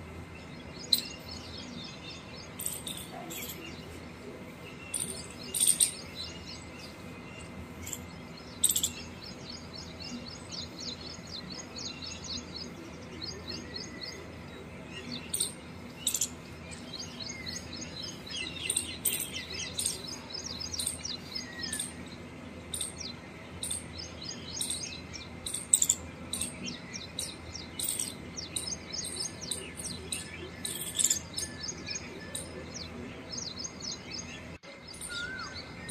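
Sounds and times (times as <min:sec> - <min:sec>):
faint low background hum: 0:00.0 - 0:35.9
small birds chirping: 0:00.0 - 0:35.9.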